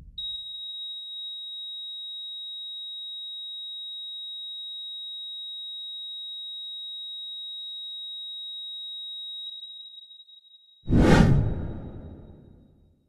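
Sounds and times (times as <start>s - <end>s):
heart monitor flatline beep: 0.0s - 10.8s.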